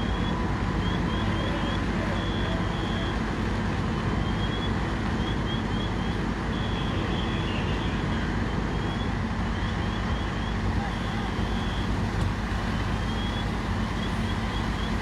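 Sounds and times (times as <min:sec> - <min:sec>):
fire truck engines rumbling: 0:00.0 - 0:15.0.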